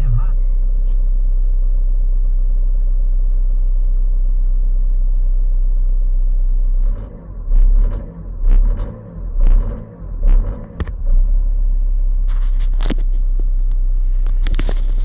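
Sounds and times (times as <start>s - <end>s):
car engine running unevenly: 0.0s - 15.0s.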